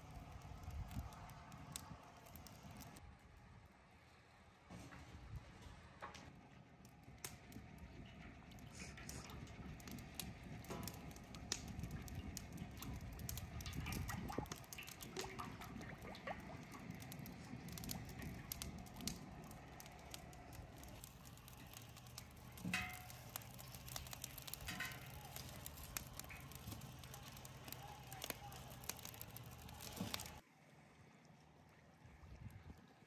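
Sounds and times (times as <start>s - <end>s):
wood fire crackling and popping: 0.0s - 3.0s, 6.0s - 30.4s
low steady rumble: 0.0s - 33.0s.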